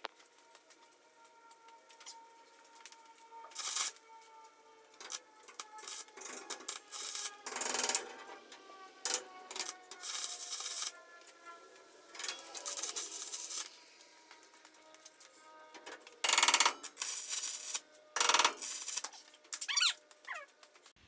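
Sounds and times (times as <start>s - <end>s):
welding arc crackling and hissing: 0.0s - 21.0s.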